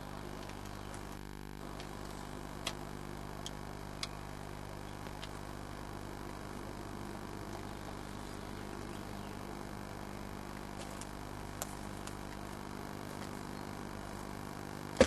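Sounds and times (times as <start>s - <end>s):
steady hiss and hum: 0.0s - 15.0s.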